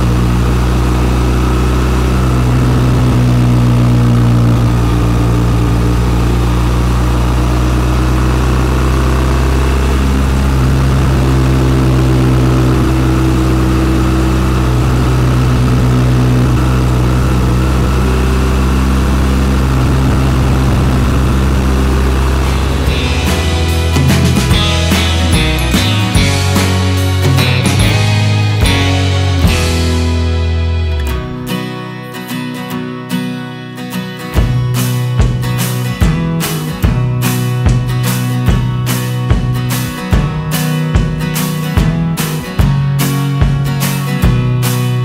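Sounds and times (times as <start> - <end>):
motorcycle engine running: 0.0 - 31.7, 34.2 - 45.0.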